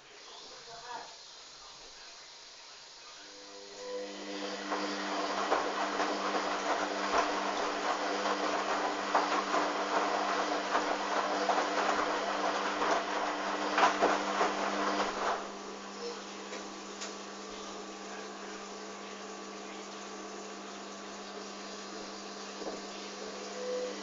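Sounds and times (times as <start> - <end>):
washing machine motor hum: 0.0 - 24.0.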